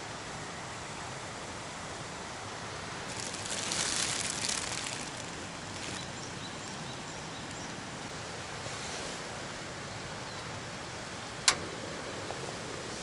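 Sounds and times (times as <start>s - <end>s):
flowing river water: 0.0s - 11.4s.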